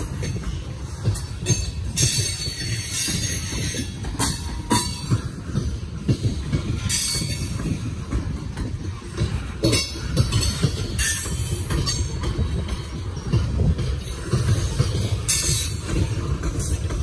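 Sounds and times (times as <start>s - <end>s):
steel wheels rolling on rail: 0.0s - 17.0s.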